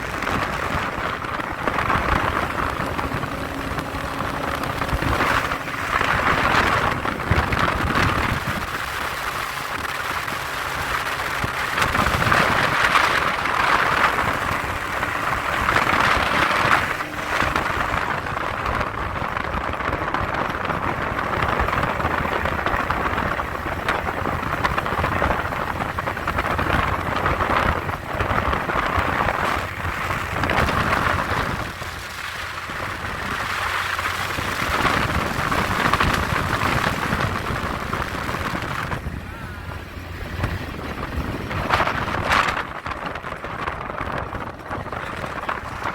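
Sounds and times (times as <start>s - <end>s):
low engine hum: 0.0s - 45.9s
wind rushing noise: 0.0s - 45.9s.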